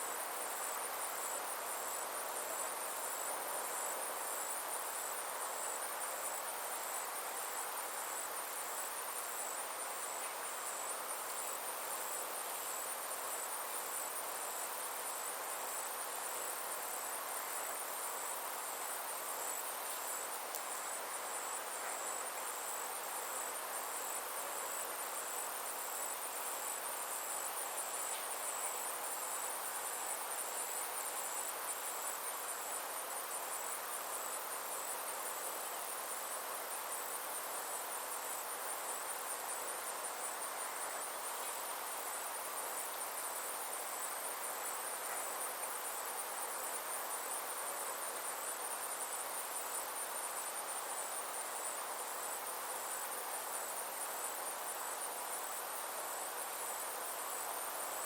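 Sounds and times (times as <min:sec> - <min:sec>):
insects trilling: 0:00.0 - 0:58.0
soft outdoor hiss: 0:00.0 - 0:58.0.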